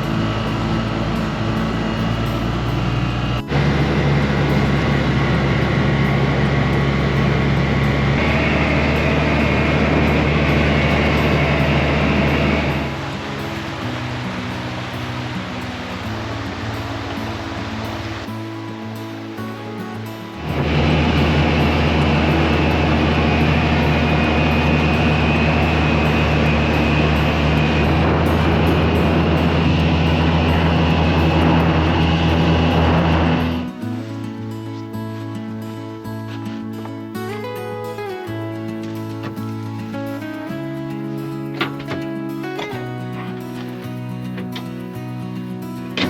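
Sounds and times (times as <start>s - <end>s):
outboard motor running: 0.0s - 34.9s, 38.8s - 46.0s.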